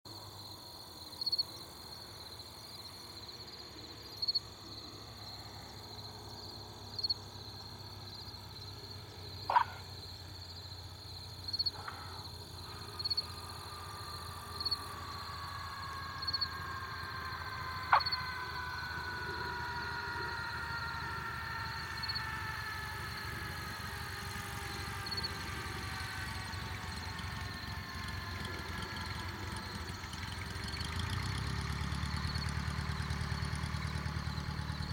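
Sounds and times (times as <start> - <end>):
light plane engine and propeller drone: 0.1 - 34.9.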